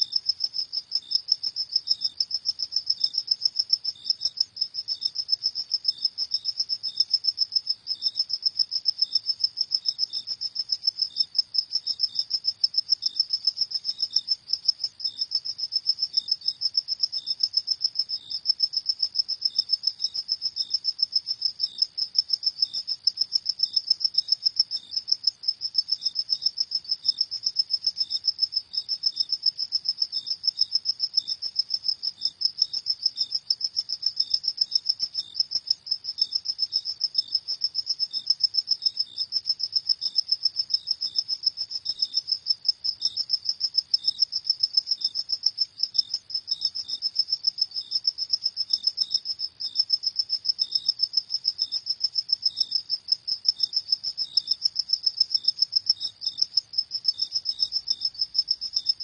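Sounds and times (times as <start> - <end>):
crickets chirping chorus: 0.0 - 59.0.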